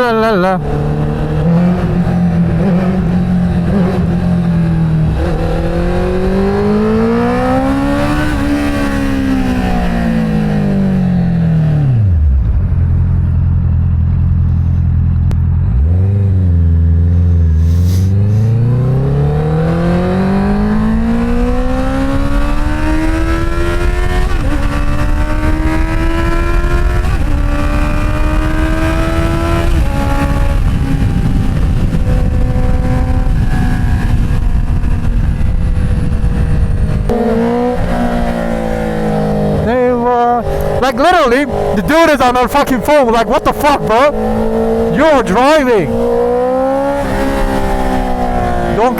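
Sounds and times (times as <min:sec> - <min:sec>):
car engine and exhaust: 0:00.0 - 0:48.9.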